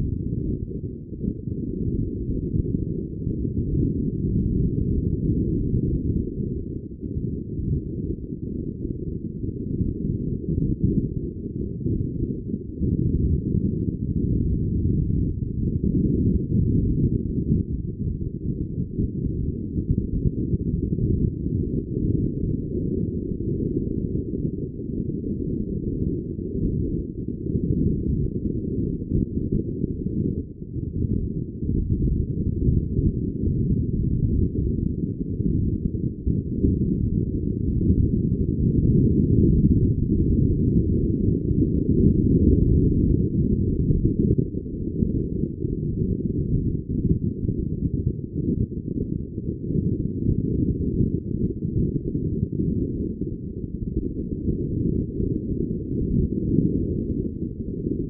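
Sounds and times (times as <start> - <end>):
wind buffeting microphone: 0.0 - 53.4.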